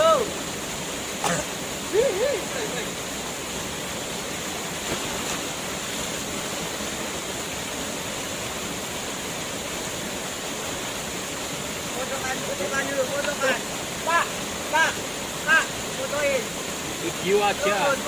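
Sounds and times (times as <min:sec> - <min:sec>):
waterfall pouring into pool: 0:00.0 - 0:18.0.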